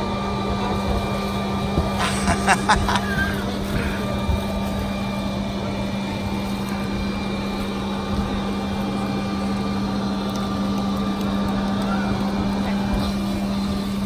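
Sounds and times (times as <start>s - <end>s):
machine motor droning: 0.0s - 14.0s
noisy rush: 0.0s - 14.0s.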